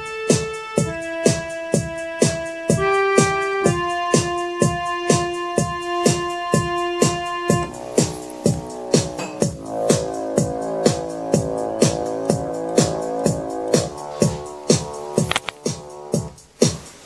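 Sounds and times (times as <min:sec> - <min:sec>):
keyboard melody and chords: 0:00.0 - 0:16.8
keyboard drum beat: 0:00.0 - 0:17.0.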